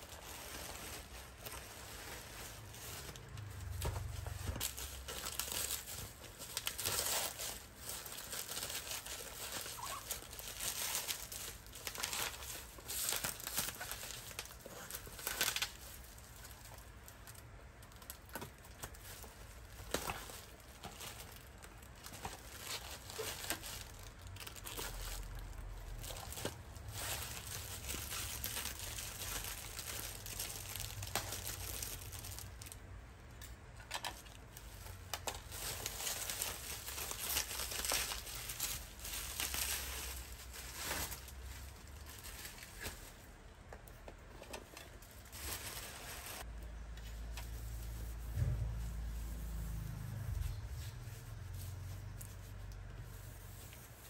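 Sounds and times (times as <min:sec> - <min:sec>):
plastic wrap crinkling: 0:00.0 - 0:54.0.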